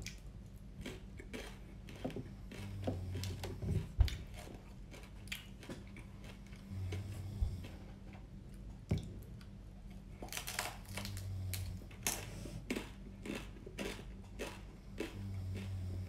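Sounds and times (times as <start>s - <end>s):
crunching and chewing fried crab: 0.0s - 8.7s, 9.4s - 16.0s.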